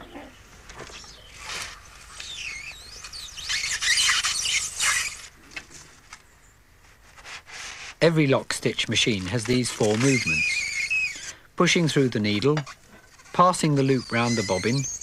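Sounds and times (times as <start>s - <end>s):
rope and needle squeaking in polystyrene: 0.8s - 6.0s, 6.8s - 15.0s.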